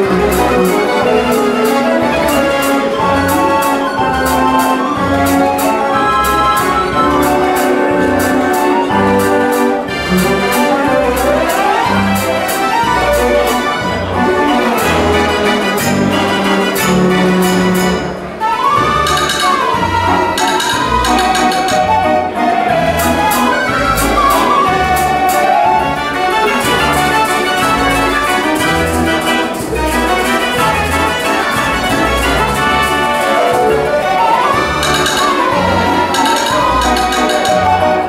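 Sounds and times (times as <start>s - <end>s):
dance organ melody: 0.0s - 38.0s
percussion strikes: 0.0s - 38.0s.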